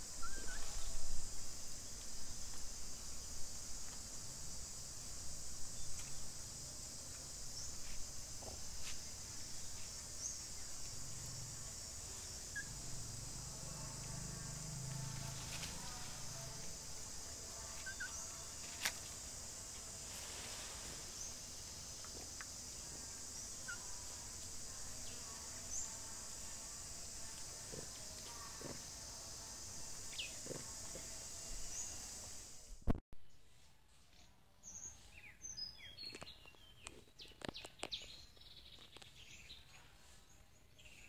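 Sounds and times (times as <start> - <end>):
insect chorus drone: 0.0 - 33.0, 34.7 - 39.7.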